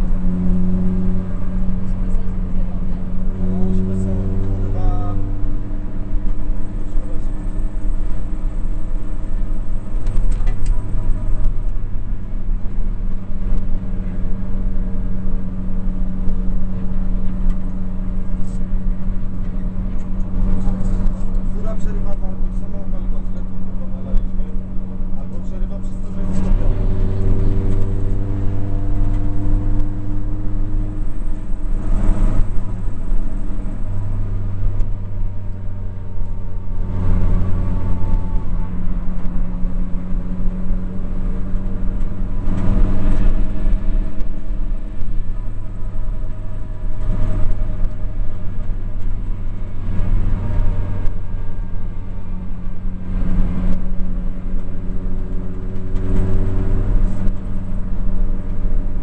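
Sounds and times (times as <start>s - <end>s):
car engine from inside cabin: 0.0s - 59.0s
road noise: 0.0s - 59.0s.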